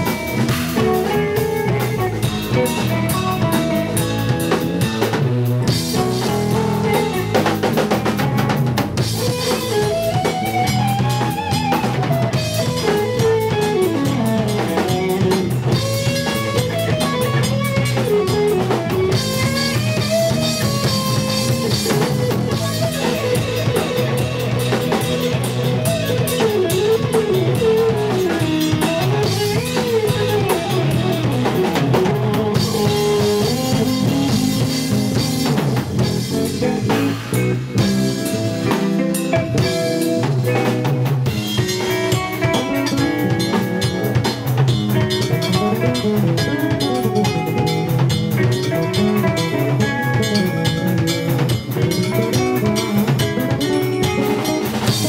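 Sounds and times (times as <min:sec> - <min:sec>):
busy drum kit: 0:00.0 - 0:55.0
electric guitar bending melody: 0:00.0 - 0:55.0.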